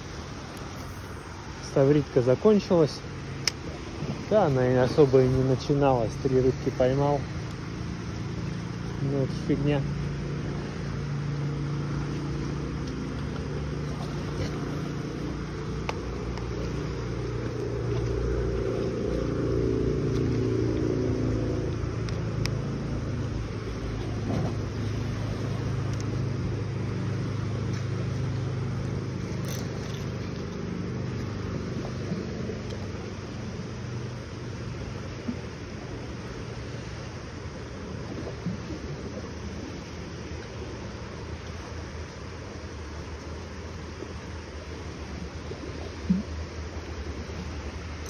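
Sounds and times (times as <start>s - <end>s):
motor engine humming: 0.0s - 48.0s.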